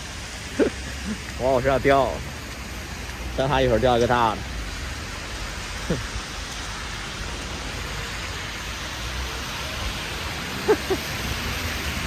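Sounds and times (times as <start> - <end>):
freezing rain hissing: 0.0 - 12.0.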